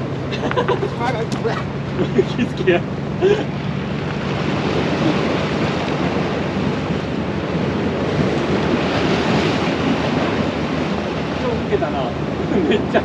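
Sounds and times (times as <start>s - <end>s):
surf washing on rocky shore: 0.0s - 13.0s
wind buffeting microphone: 0.0s - 13.0s.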